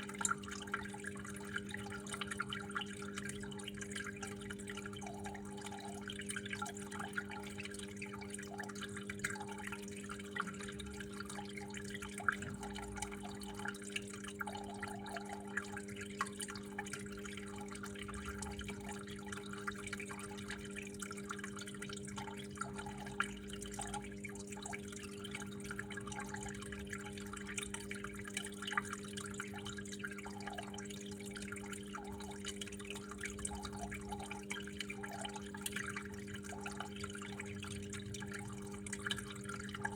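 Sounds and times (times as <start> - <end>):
water dripping: 0.0 - 39.9
water trickling and splashing: 0.0 - 39.9.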